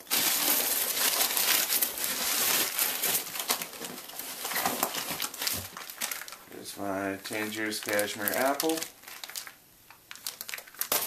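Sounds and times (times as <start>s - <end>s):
paper and packing peanuts rustling: 0.0s - 11.0s.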